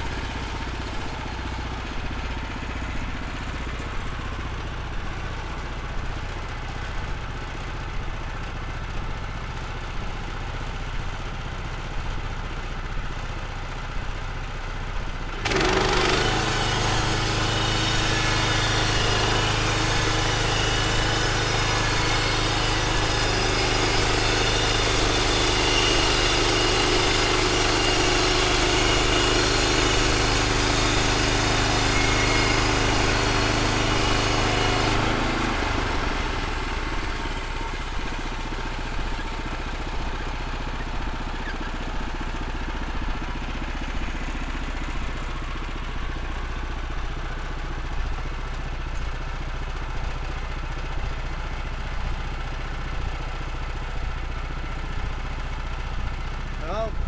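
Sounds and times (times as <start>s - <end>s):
gasoline engine running: 0.0s - 57.0s.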